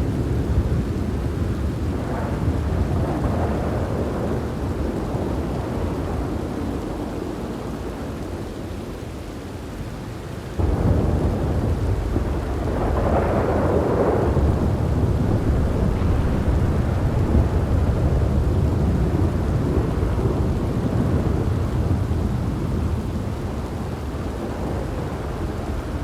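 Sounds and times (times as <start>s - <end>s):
thunder rumbling: 0.0s - 8.2s, 10.6s - 26.0s
rain falling: 0.0s - 26.0s.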